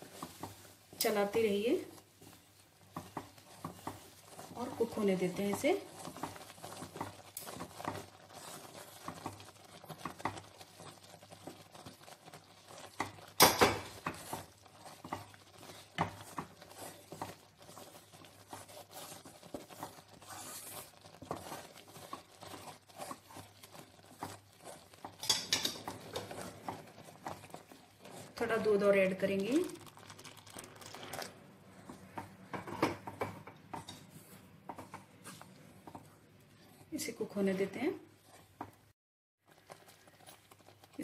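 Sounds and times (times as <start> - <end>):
spatula scraping a pan: 1.5 - 29.7, 30.5 - 38.8.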